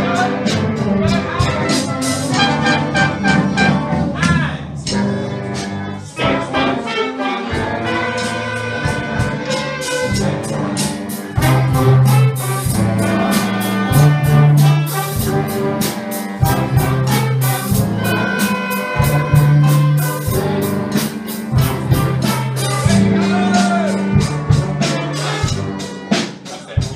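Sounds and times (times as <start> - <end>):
school ensemble playing a tune: 0.0 - 26.9.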